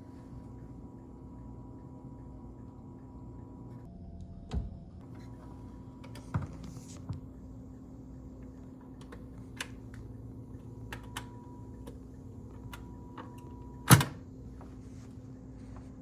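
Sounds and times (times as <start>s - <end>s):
record changer motor hum: 0.0s - 16.0s.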